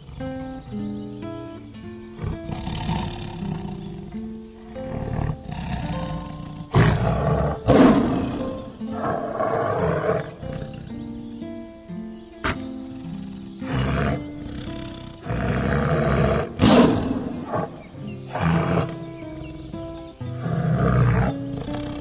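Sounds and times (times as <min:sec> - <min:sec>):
tiger roaring and growling: 0:00.0 - 0:01.0, 0:02.1 - 0:11.0, 0:13.6 - 0:22.0
background music: 0:00.0 - 0:22.0.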